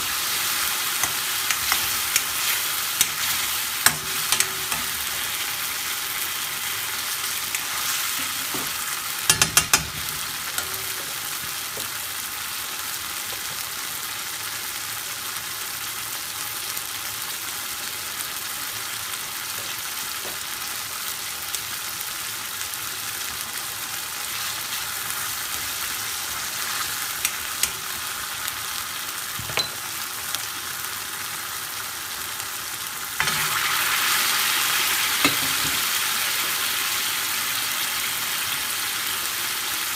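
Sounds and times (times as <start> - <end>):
curry sizzling in pan: 0.0 - 39.9.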